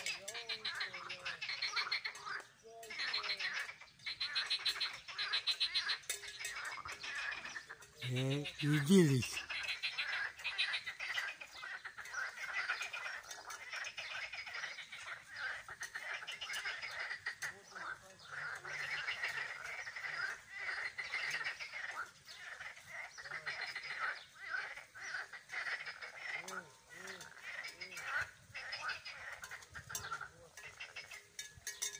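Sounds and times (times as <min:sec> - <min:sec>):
tree frogs croaking: 0:00.0 - 0:31.9.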